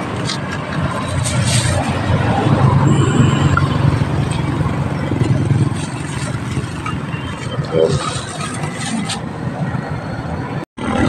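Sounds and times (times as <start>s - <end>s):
motor vehicle engine running: 0.0s - 9.9s.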